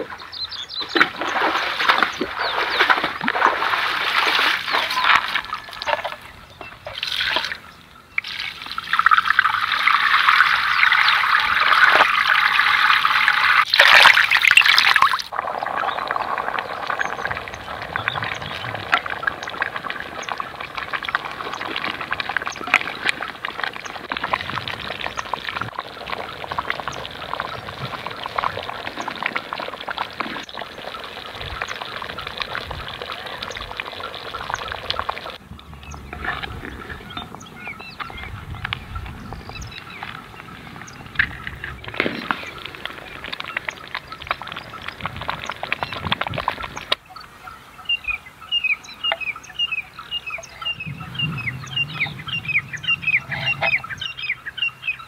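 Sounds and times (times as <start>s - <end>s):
water poured and splashing: 0.0s - 7.6s, 8.2s - 47.0s
running water: 0.0s - 55.0s.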